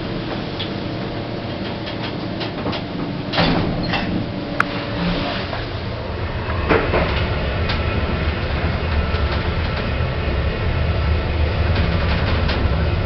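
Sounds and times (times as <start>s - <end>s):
lift car hum and rumble: 0.0s - 13.0s.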